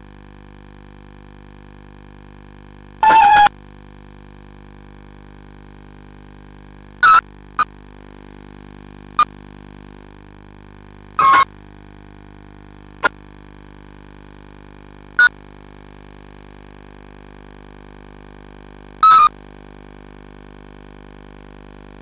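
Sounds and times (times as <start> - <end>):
speaker hum: 0.0 - 22.0.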